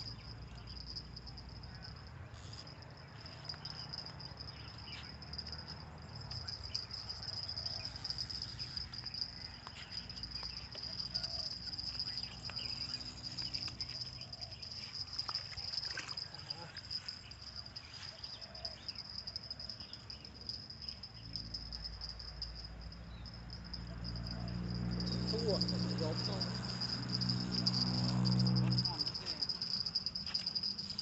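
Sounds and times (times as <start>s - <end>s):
high-pitched insect drone: 0.0s - 31.0s.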